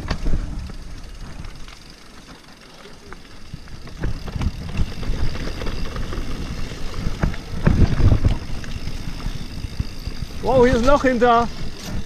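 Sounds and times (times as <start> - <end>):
bike knocking and rattling: 0.0 - 12.0
bike tyres rumbling on dirt: 0.0 - 12.0.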